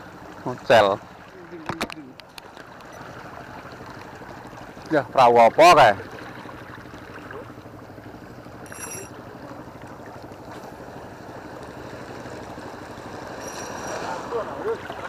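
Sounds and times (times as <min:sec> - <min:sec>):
boat engine humming: 0:00.0 - 0:15.0
water noise: 0:00.0 - 0:15.0.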